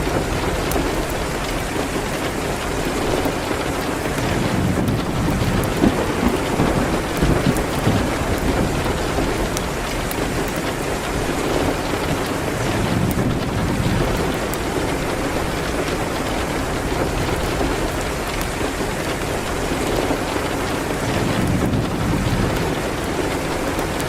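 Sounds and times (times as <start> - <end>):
rain hitting a window: 0.0 - 24.0
wood fire crackling: 0.0 - 24.0.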